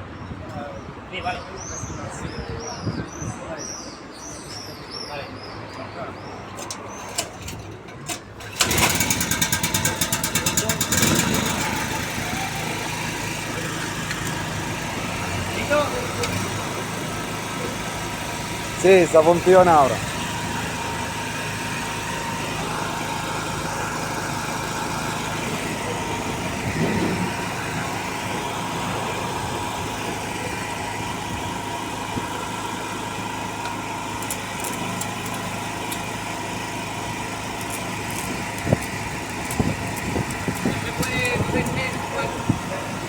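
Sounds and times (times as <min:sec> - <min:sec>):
petrol engine running: 0:06.5 - 0:43.0.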